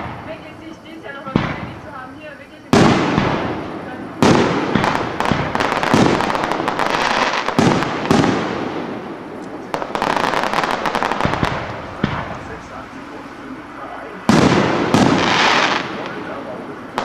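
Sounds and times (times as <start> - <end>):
fireworks bangs with echo: 0.0 - 17.0
fireworks crackling: 0.0 - 17.0.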